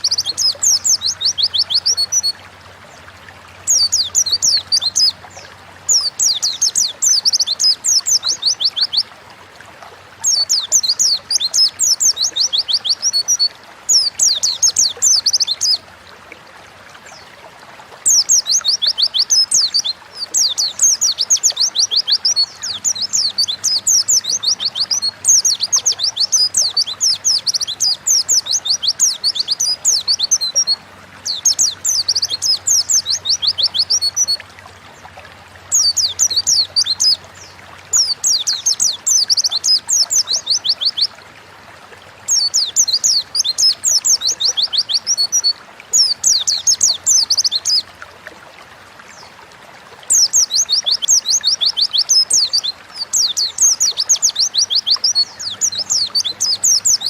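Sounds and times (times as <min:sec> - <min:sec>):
bird high twittering song: 0:00.0 - 0:09.1, 0:10.2 - 0:15.8, 0:18.0 - 0:34.4, 0:35.7 - 0:41.2, 0:42.3 - 0:47.9, 0:50.1 - 0:57.0.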